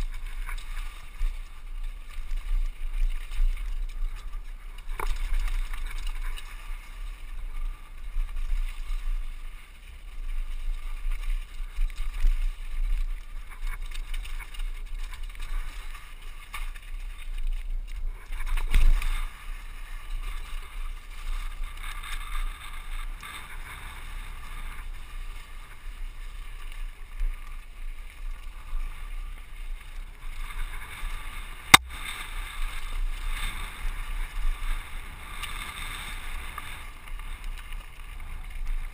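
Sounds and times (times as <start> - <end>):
bike rattling on rocky dirt: 0.0 - 38.9.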